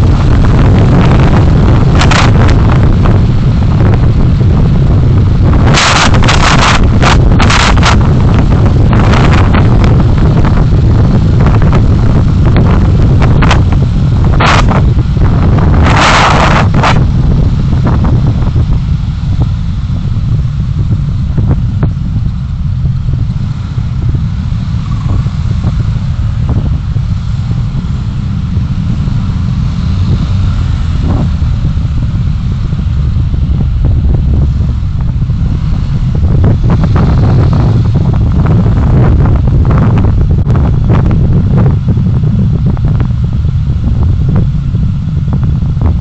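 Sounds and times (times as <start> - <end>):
vehicle road and engine rumble: 0.0 - 46.0
wind buffeting microphone: 0.0 - 46.0.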